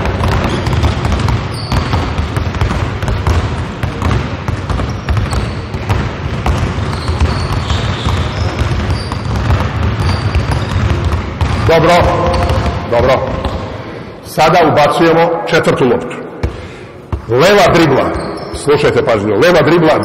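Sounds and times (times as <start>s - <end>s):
basketballs bouncing on hardwood: 0.0s - 14.0s, 16.4s - 19.1s.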